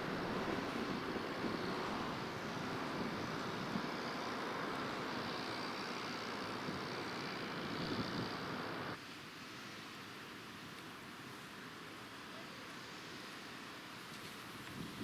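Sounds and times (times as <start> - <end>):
road traffic: 0.0 - 14.1.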